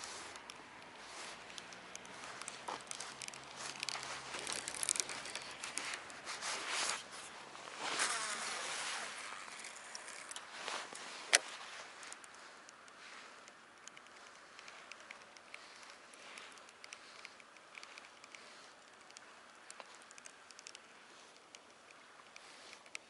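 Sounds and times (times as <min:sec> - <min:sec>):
fishing gear rustling and scraping: 0:00.0 - 0:23.0
small clicks: 0:00.0 - 0:23.0.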